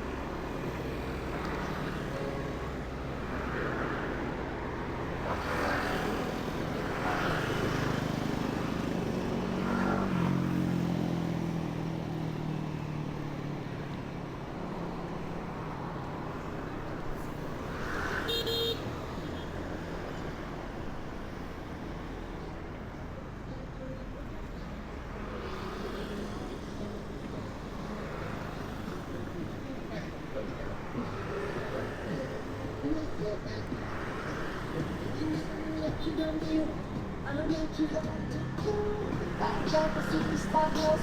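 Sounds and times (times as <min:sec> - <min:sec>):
passing traffic engines: 0:00.0 - 0:41.0
vehicle engine: 0:00.0 - 0:41.0.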